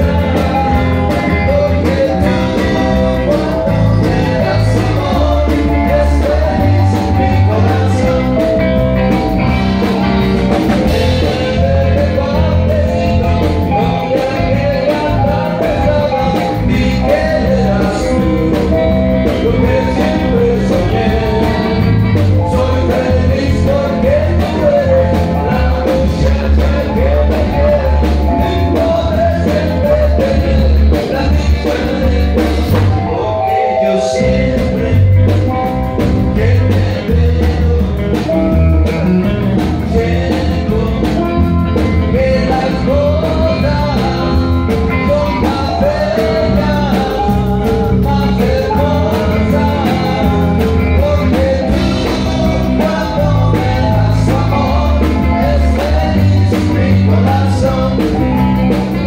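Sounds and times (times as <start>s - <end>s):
drum kit: 0.0s - 59.0s
electric guitars: 0.0s - 59.0s
man singing into microphone: 0.0s - 59.0s.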